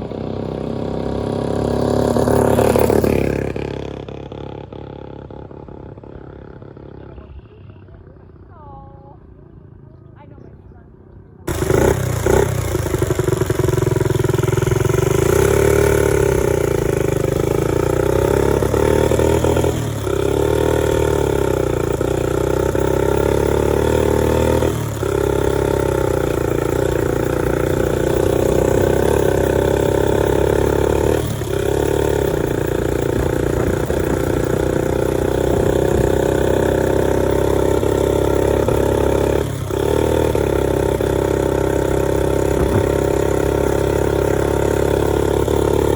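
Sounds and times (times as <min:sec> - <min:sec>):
small motorcycle engine revving: 0:00.0 - 0:10.2, 0:11.4 - 0:45.9.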